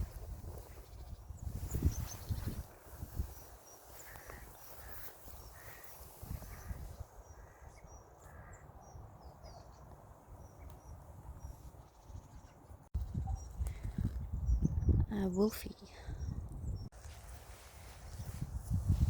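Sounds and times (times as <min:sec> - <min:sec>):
small birds calling: 0:00.1 - 0:16.9.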